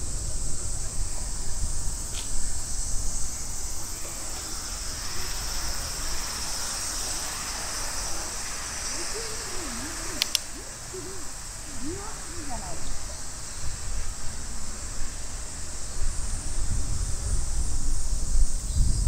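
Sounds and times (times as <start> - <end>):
cicadas singing: 0.0 - 19.0
wind rumble on microphone: 0.0 - 19.0.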